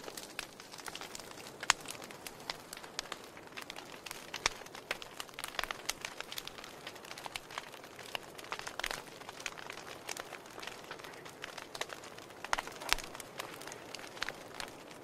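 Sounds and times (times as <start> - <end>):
soft steady fire hiss: 0.0 - 15.0
wood fire crackling: 0.0 - 15.0.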